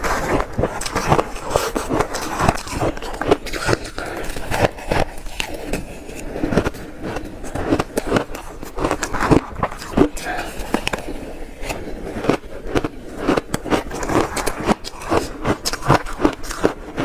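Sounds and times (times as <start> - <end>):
ice being crunched: 0.0 - 17.0.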